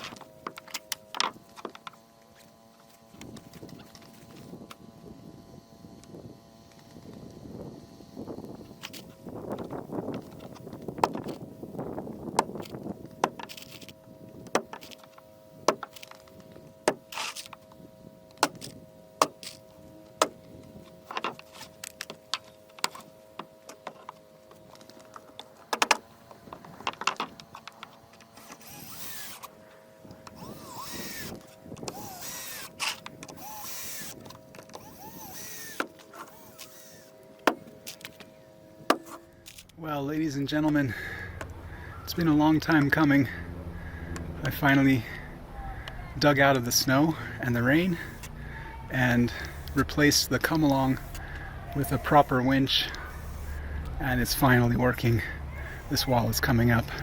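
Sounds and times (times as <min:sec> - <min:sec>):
winch motor whine: 0:00.0 - 0:57.0.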